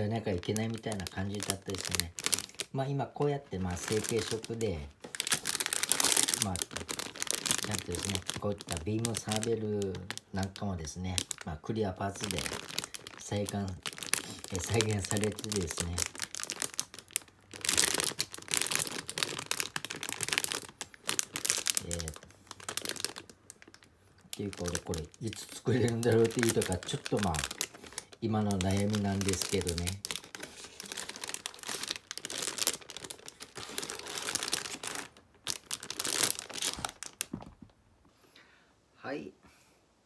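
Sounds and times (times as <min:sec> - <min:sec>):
plastic bags crinkling: 0:00.0 - 0:37.8.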